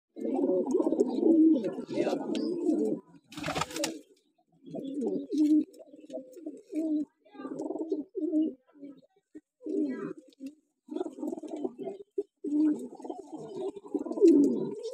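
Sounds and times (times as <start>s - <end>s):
pigeons cooing: 0.2s - 14.9s.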